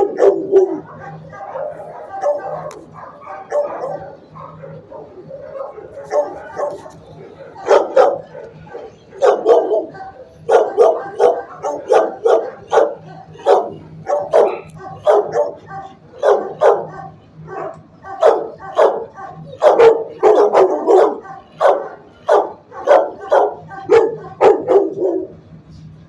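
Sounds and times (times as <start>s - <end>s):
dogs barking: 0.0s - 26.0s.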